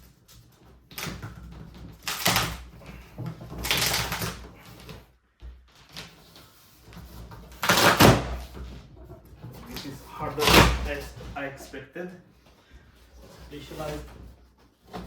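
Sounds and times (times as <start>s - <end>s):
packaging rustling and scraping: 0.0s - 11.9s, 12.6s - 15.0s.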